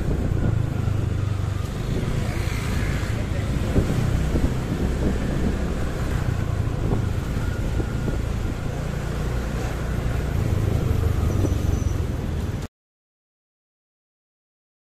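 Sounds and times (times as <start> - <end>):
motorbike engine and road rumble: 0.0 - 12.7.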